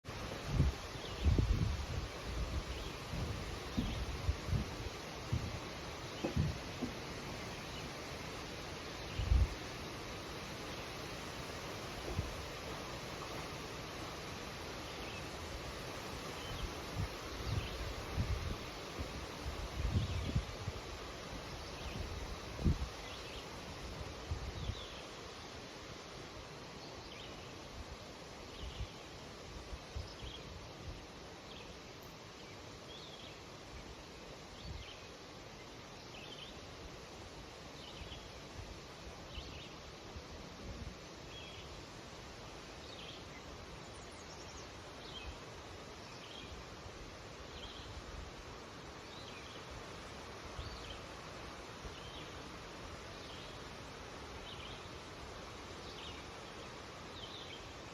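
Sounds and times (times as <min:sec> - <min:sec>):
wind rustling in trees: 0:00.0 - 0:57.9.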